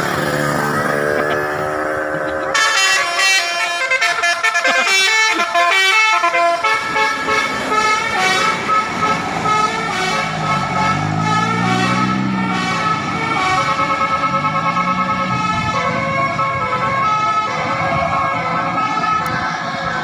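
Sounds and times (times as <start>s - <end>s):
bus engine: 0.0s - 20.0s
musical bus air horn: 2.5s - 19.5s.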